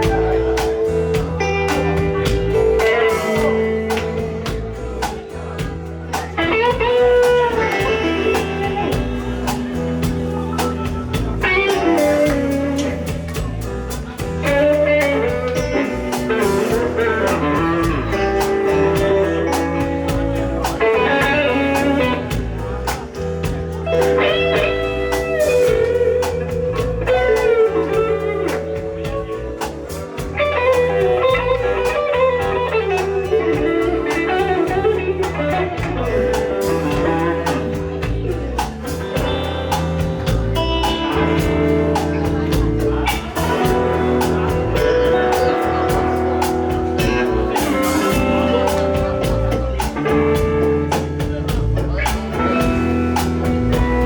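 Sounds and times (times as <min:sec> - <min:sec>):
blues band playing: 0:00.0 - 0:54.0
electric guitar lead lines: 0:00.0 - 0:54.0.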